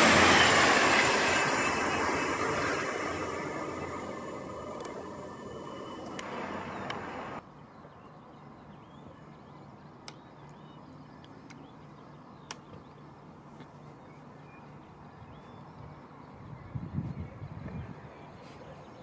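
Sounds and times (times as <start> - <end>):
faint birdsong: 1.3 - 19.0.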